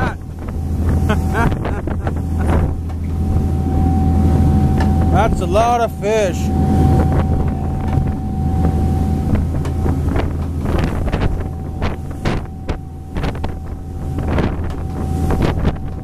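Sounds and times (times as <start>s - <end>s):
boat wake through water: 0.0s - 16.0s
motorboat engine droning: 0.0s - 16.0s
wind buffeting microphone: 0.0s - 16.0s.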